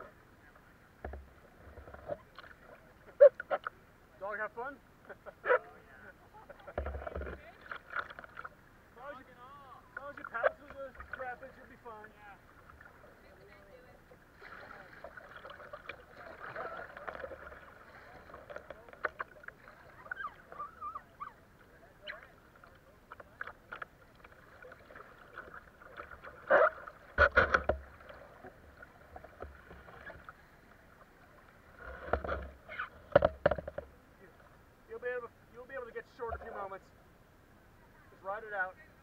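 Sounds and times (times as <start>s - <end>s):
water splashing against kayak hull: 0.6s - 3.8s, 6.4s - 35.1s.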